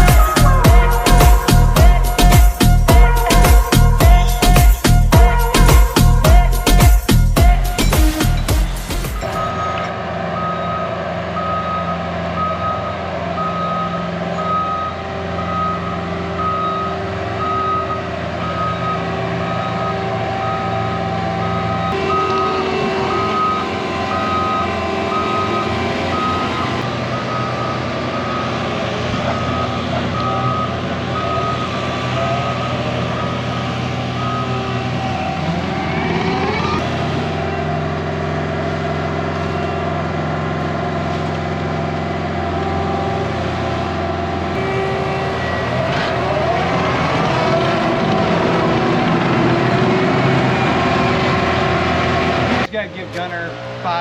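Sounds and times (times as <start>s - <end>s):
reversing alarm beeping: 0.0s - 52.8s
machine engine running and revving: 0.0s - 54.0s.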